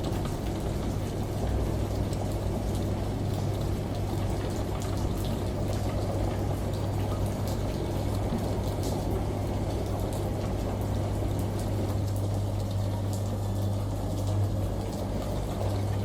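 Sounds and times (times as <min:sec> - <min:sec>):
running water: 0:00.0 - 0:16.0
washing machine humming: 0:00.0 - 0:16.0.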